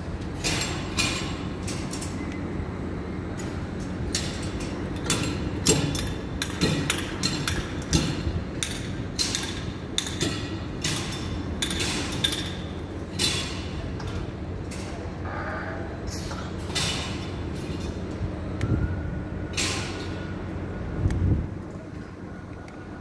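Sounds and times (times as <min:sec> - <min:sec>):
low rumble of machinery: 0:00.0 - 0:23.0.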